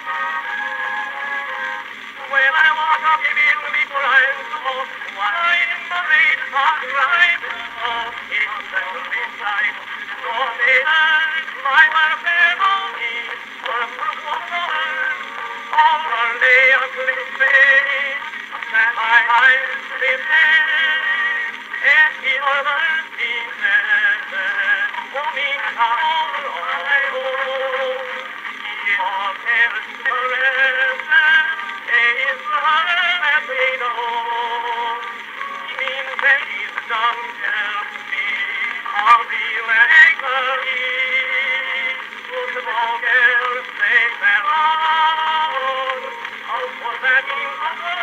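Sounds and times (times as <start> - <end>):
man singing on old phonograph: 0.0 - 48.0.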